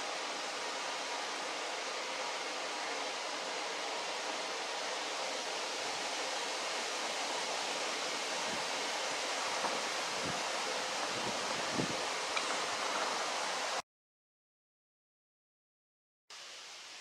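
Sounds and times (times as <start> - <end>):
rushing background hiss: 0.0 - 13.8, 16.3 - 17.0.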